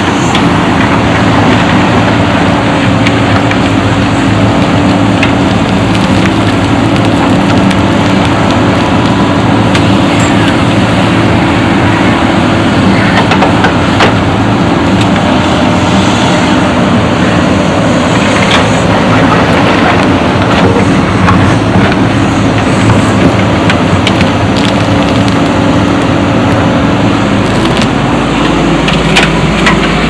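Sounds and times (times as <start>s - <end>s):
dense rushing noise: 0.0s - 30.0s
diesel engine running: 0.0s - 30.0s.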